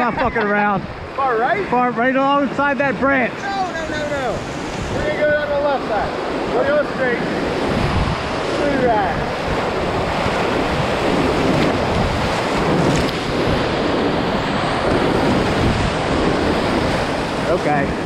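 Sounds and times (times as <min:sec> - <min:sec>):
whitewater rapids rushing: 0:00.0 - 0:18.0.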